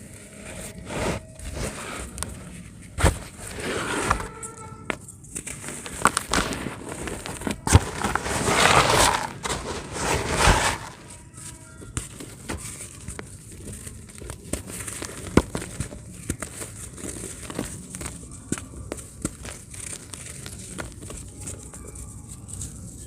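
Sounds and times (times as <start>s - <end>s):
dry cement crumbling: 0.0s - 23.0s.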